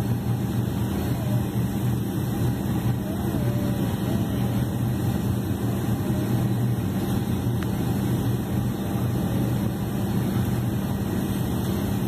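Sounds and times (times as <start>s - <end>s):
cabin air noise: 0.0s - 12.0s
jet engines idling: 0.0s - 12.0s.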